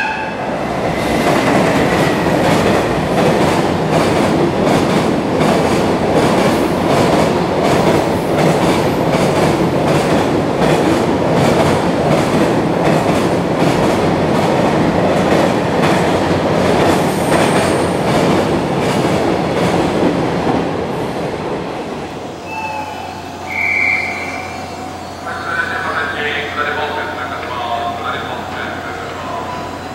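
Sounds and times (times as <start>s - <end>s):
freight train rumbling: 0.0s - 29.9s.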